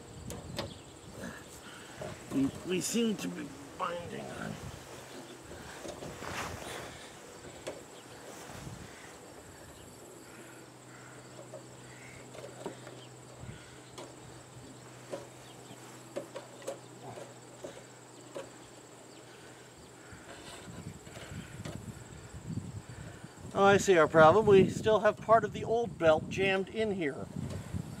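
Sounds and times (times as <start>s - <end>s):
insect trill: 0.0s - 26.0s.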